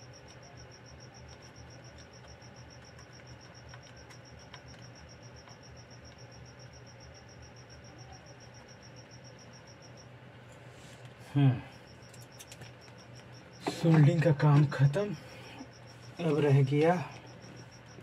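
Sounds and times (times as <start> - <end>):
faint pulsed high chirping: 0.0 - 10.2, 11.3 - 18.0
low steady hum: 0.0 - 18.0.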